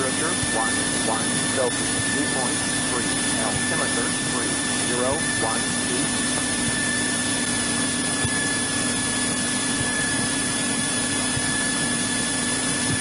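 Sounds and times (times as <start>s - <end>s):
airplane engine and propeller drone: 0.0s - 13.0s.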